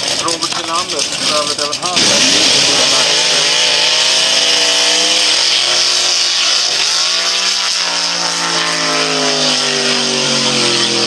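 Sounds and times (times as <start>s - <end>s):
car engine at high revs: 0.0s - 11.0s
spinning tyres hissing: 0.0s - 11.0s.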